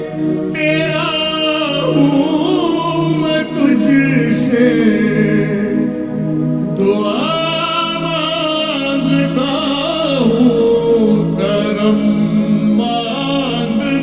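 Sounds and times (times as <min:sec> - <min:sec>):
person singing melismatic notes: 0:00.0 - 0:14.0
steady low drone: 0:00.0 - 0:14.0.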